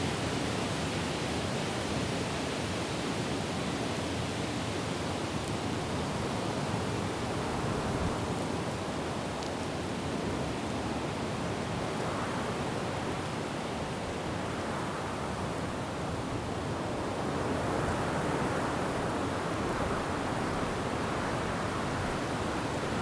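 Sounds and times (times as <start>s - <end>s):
wind through trees: 0.0s - 23.0s.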